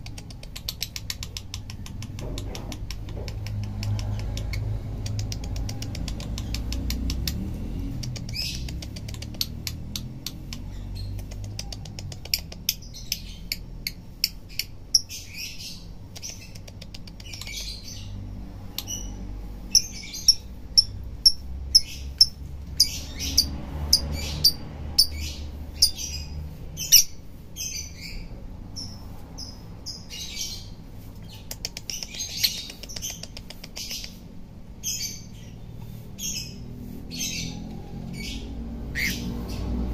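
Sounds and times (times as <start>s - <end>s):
lovebird singing: 0.0s - 39.8s.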